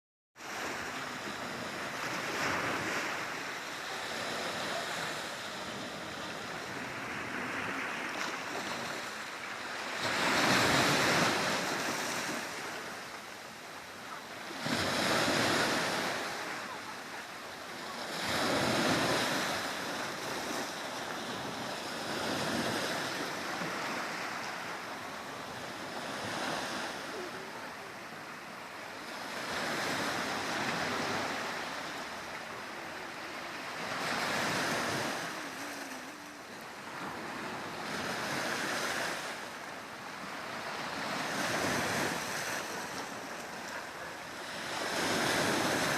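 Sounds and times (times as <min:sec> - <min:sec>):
small sea waves breaking on shore: 0:00.4 - 0:45.9.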